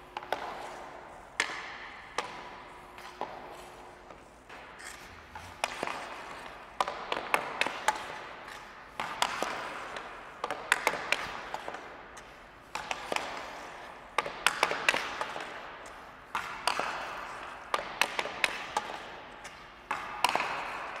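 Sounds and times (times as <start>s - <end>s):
hockey stick clacking puck: 0.0s - 21.0s.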